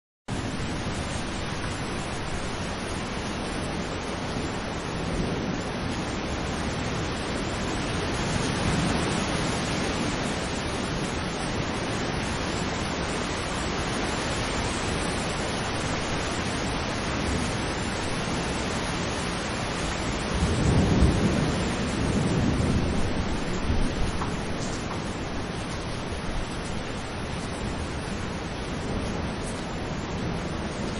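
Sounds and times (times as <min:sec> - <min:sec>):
wind noise on microphone: 0:00.3 - 0:30.9.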